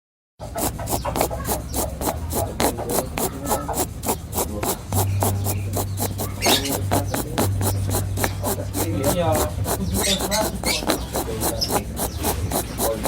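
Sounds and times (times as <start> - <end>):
steady low hum: 0.4 - 13.0
rabbit snoring breath: 0.5 - 13.0.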